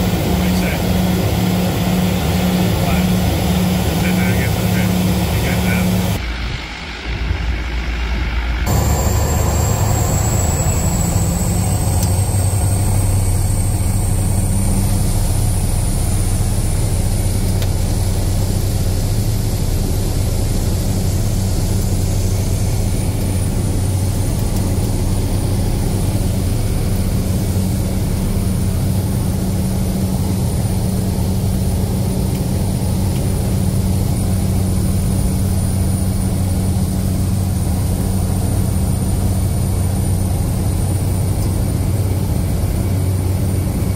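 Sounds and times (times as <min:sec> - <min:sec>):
high engine whine: 0:00.0 - 0:43.9
propeller plane engine drone: 0:00.0 - 0:43.9.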